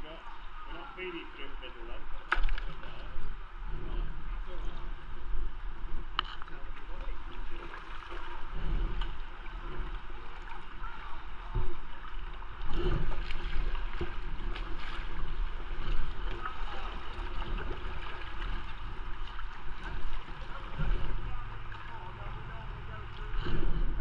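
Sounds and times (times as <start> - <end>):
river water rushing and lapping: 0.0 - 24.0
kayak paddle strokes splashing: 1.8 - 3.7, 4.5 - 24.0
wind rumble on microphone: 2.4 - 24.0.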